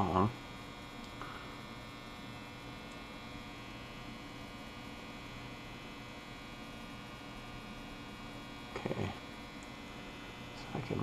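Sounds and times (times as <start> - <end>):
electrical hum: 0.0 - 11.0
higher electrical buzz: 0.0 - 11.0.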